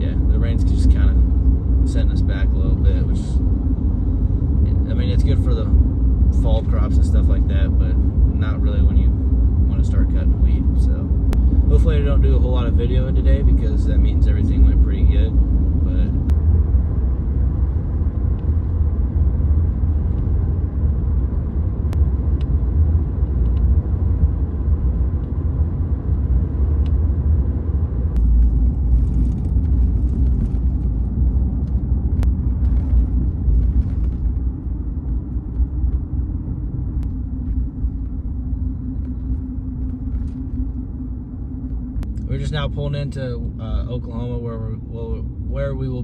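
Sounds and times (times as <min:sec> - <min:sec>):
steady hum: 0:00.0 - 0:46.0
truck engine and tyres rumbling: 0:00.0 - 0:46.0.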